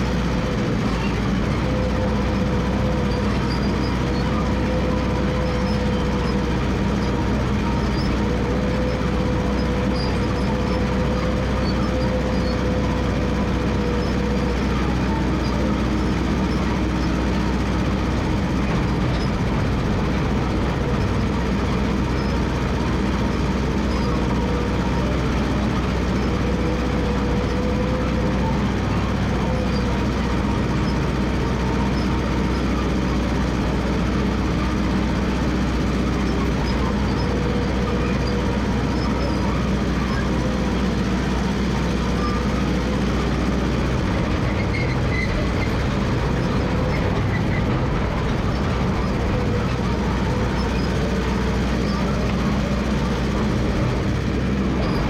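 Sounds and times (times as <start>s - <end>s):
crawler dozer engine running: 0.0s - 55.0s
steel tracks rattling: 8.4s - 55.0s.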